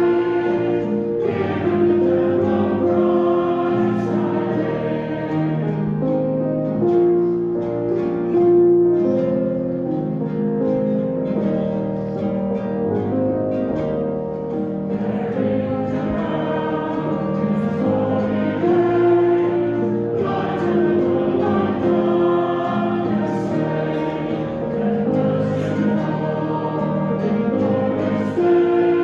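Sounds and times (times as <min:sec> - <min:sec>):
congregation singing a hymn: 0:00.0 - 0:29.0
instrumental accompaniment: 0:00.0 - 0:29.0.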